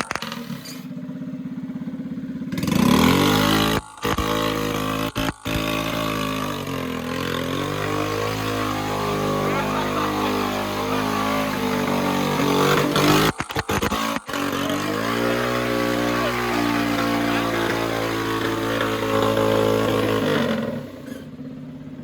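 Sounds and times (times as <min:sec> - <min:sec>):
mini-bike engine revving: 0:00.0 - 0:22.0.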